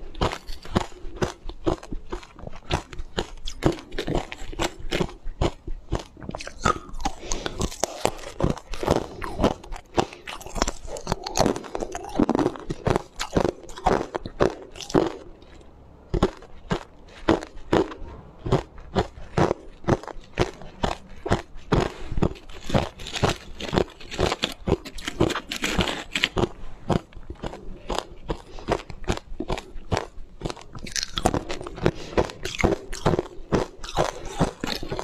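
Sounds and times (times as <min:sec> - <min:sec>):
ice cubes crunched between teeth: 0:00.2 - 0:15.6, 0:18.6 - 0:35.0.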